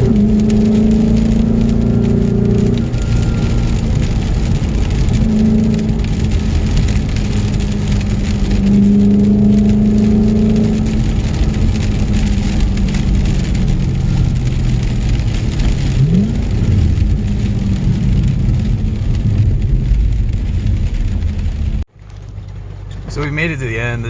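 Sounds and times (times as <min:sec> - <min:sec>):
car engine rumble: 0:00.0 - 0:24.0
tyre and road noise: 0:00.0 - 0:24.0.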